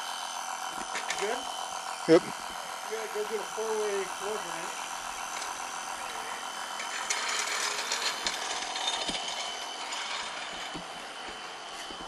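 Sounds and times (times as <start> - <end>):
air compressor buzzing: 0.0 - 12.0.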